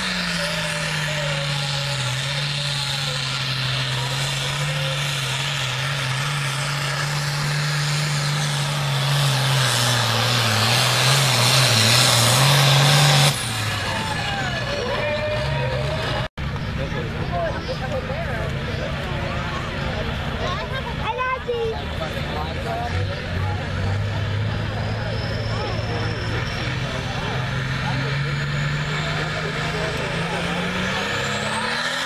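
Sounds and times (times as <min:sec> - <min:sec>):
diesel tractor engine under load: 0:00.0 - 0:32.0.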